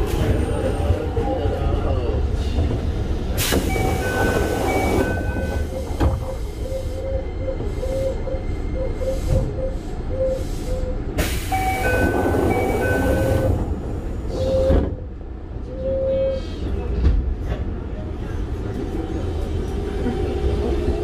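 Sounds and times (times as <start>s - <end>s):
train interior rumble: 0.0s - 21.0s.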